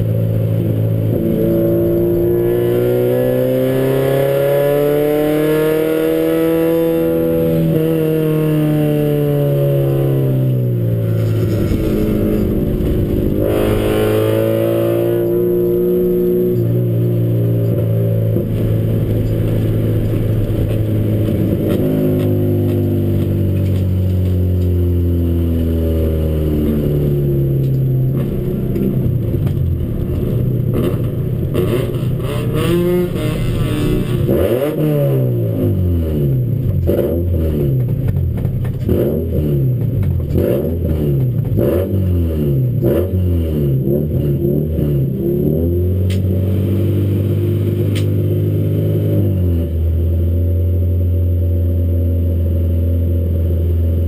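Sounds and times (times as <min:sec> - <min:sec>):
race car engine revving: 0:00.4 - 0:50.4.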